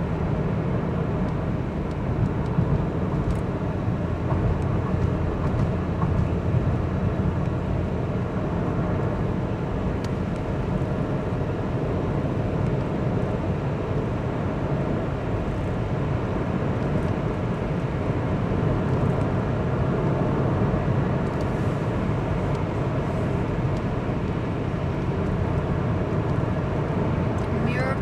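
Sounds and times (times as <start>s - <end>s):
car engine from inside cabin: 0.0s - 28.0s
tyre road noise: 0.0s - 28.0s.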